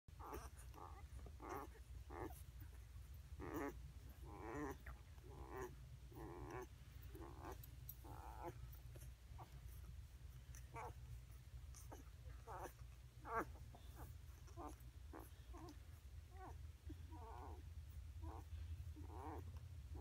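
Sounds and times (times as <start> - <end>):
puppies whimpering and grunting: 0.1 - 20.0
steady low hum: 0.1 - 20.0.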